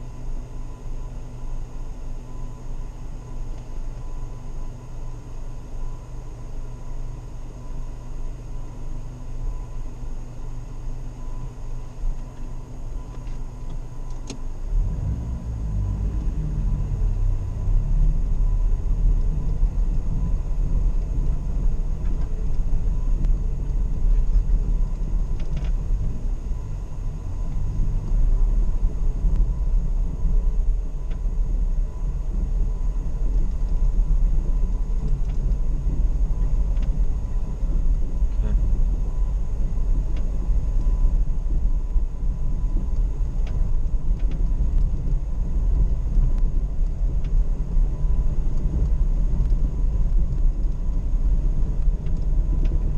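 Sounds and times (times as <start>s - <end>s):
vehicle engine and tyre rumble: 0.0s - 52.9s.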